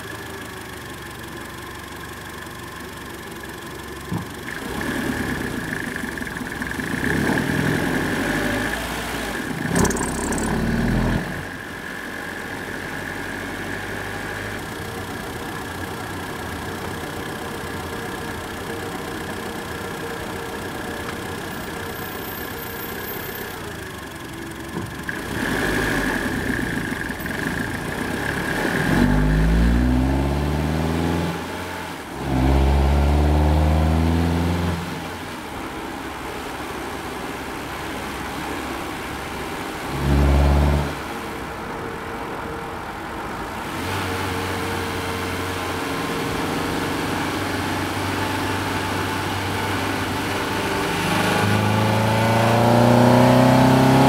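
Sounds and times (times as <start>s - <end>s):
car engine running and revving: 0.0s - 41.8s, 42.5s - 54.0s.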